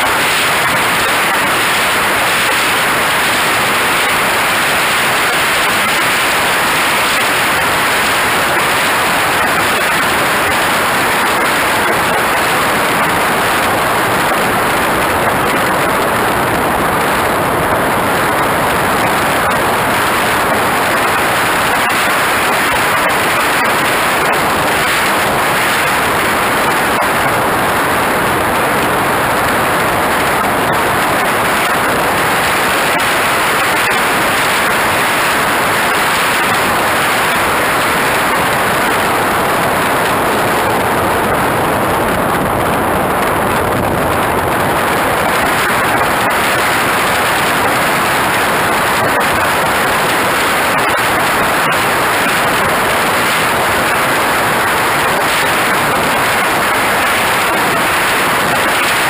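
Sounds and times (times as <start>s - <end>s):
wind rushing over microphone: 3.4s - 59.0s.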